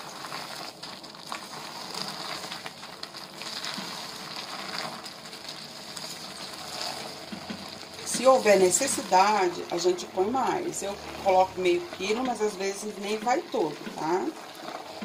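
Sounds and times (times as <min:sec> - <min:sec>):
broth sizzling: 0:00.0 - 0:15.0.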